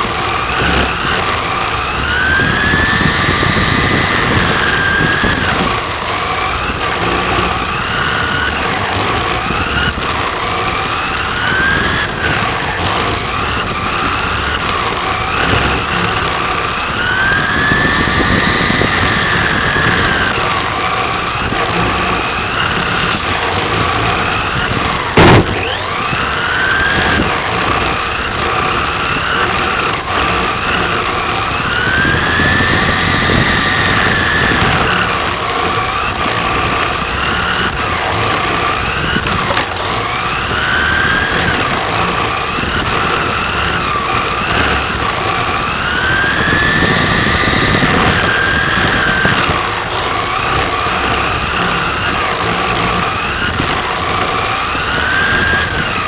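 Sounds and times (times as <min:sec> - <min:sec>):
electric motor whine: 0:00.0 - 0:56.0
rattling and tyre noise: 0:00.0 - 0:56.0.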